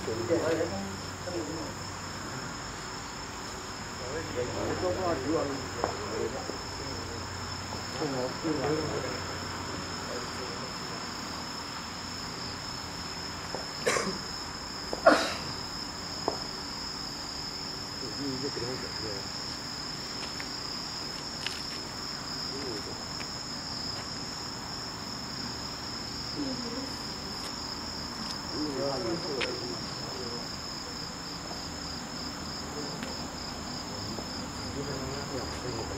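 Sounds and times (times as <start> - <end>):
crickets chirring: 0.0 - 35.9.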